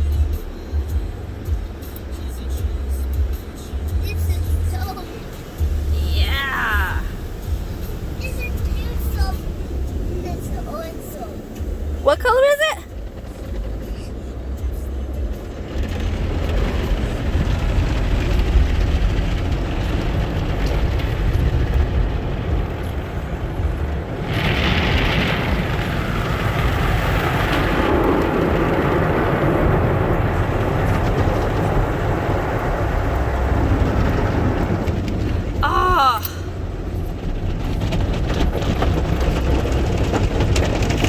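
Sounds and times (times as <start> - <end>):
car wash machinery rumbling: 0.0 - 41.0.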